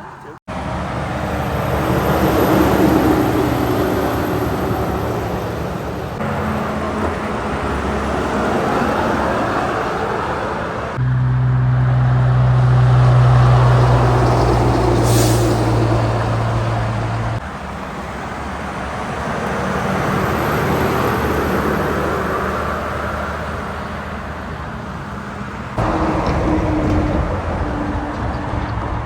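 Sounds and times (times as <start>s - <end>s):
truck engine drone: 0.0s - 29.0s.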